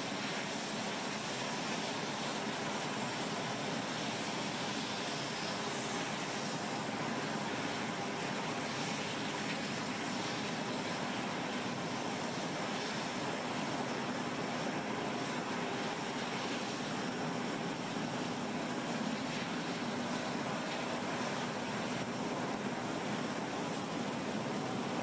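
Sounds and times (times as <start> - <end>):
aircraft engines running: 0.0 - 25.0.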